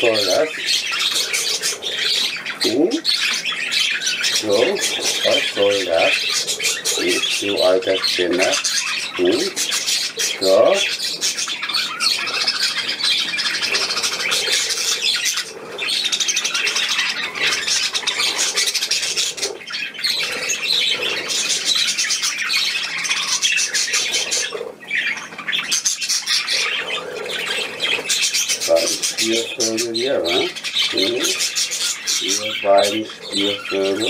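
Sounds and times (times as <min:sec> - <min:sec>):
budgerigars chattering and squawking: 0:00.0 - 0:34.0.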